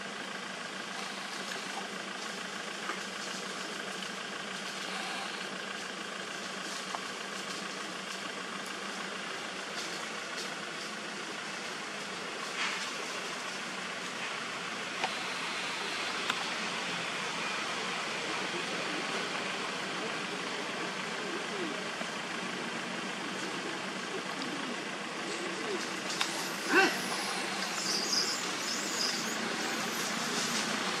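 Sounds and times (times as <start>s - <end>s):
low engine-like hum: 0.0s - 31.0s.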